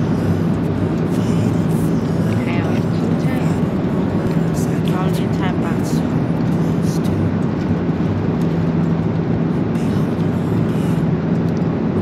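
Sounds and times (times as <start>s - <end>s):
constant low hum: 0.0s - 12.0s
rush of air and engine noise: 0.0s - 12.0s.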